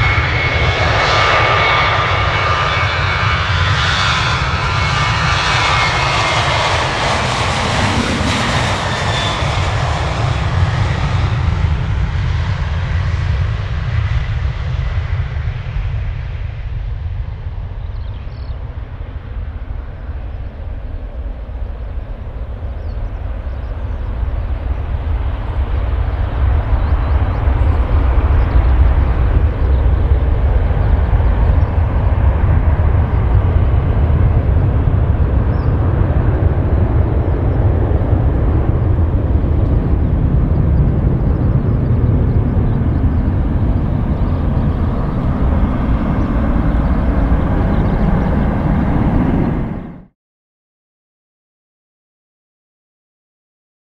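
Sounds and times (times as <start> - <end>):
jet engines rumbling at takeoff: 0.0 - 50.2.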